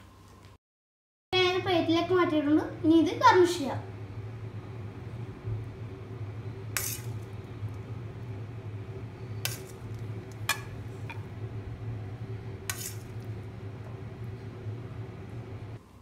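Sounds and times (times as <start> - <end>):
steady low hum: 1.4 - 16.0.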